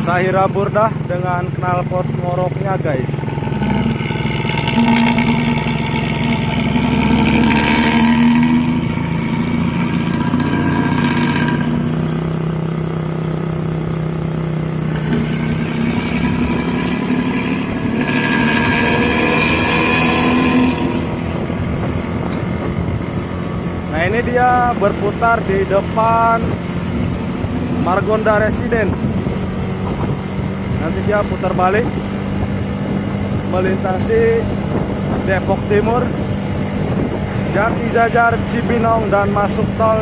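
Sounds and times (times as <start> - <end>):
bus diesel engine growling: 0.0 - 40.0.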